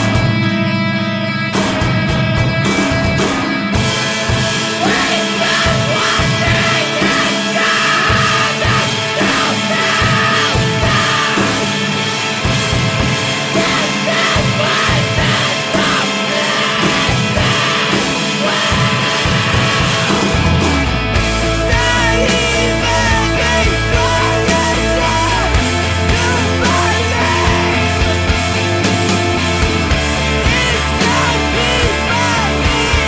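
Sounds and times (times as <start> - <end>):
rock song with shouted vocal: 0.0 - 33.0
steady drum beat: 1.6 - 33.0.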